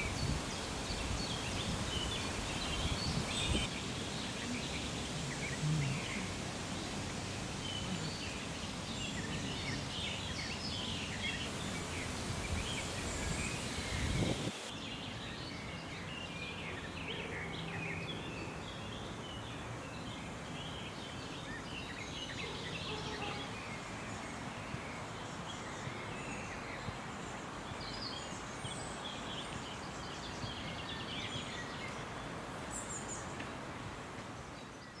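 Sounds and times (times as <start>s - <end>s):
birds chirping: 0.0s - 33.6s.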